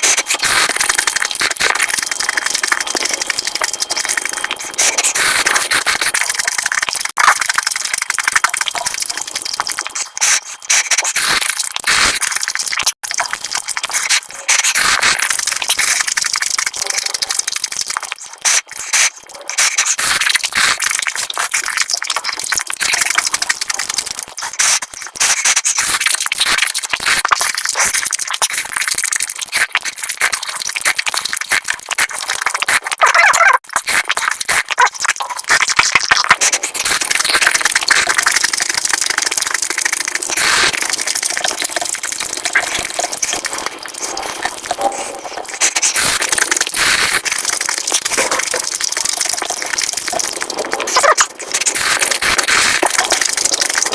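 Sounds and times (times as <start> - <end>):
sped-up chewing and crunching: 0.0 - 53.9.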